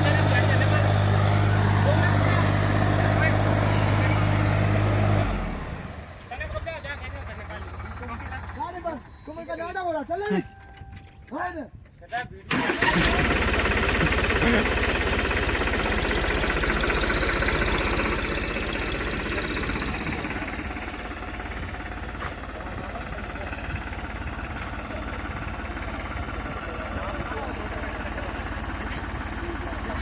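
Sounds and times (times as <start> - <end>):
tractor diesel engine running: 0.0 - 11.1, 12.2 - 30.0.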